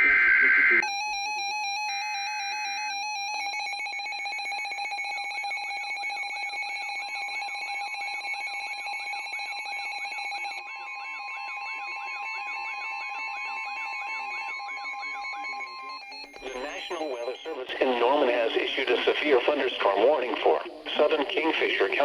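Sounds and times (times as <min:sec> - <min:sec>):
steady warning alarm tone: 0:00.0 - 0:22.0.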